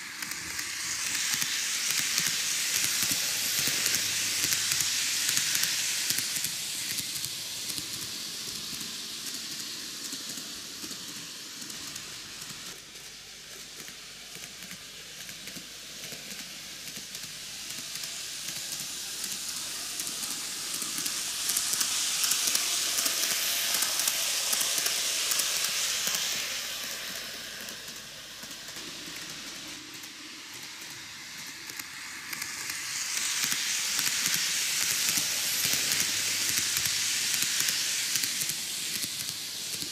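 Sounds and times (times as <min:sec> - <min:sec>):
model train wheels and motor hissing: 0:00.0 - 0:39.9.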